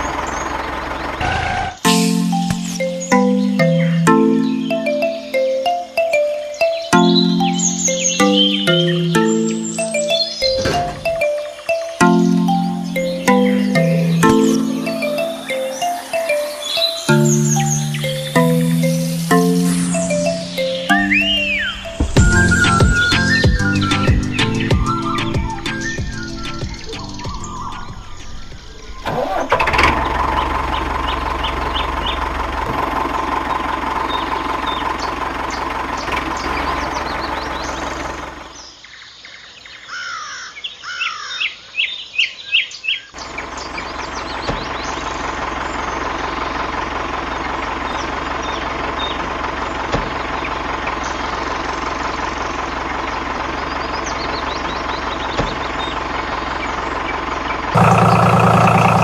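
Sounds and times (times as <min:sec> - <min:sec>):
steady engine sound: 0:00.0 - 0:38.6, 0:43.2 - 0:59.0
birds chirping: 0:00.0 - 0:59.0.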